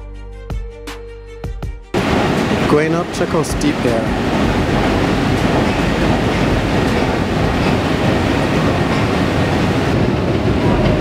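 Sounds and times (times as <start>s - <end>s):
escalator rumble and clatter: 2.0s - 11.0s.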